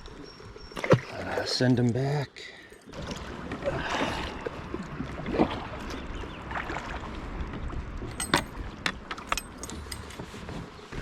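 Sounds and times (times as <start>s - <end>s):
low rumble of water: 0.0s - 11.0s.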